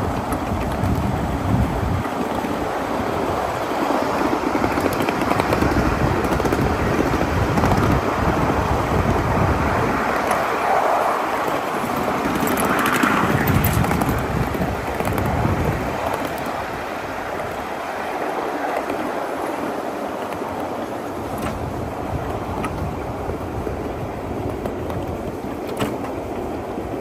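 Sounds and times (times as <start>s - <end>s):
miniature train rumbling: 0.0s - 27.0s
wind buffeting microphone: 0.0s - 27.0s.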